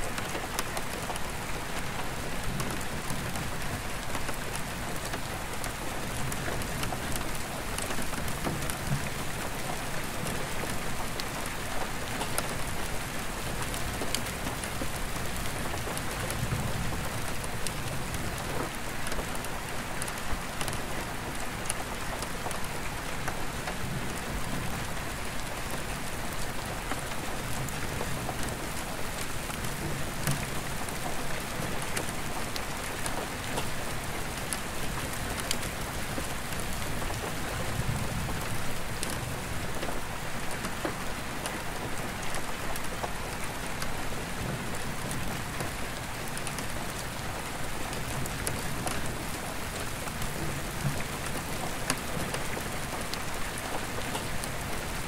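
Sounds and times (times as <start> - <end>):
rain ticking on glass skylight: 0.0 - 55.0.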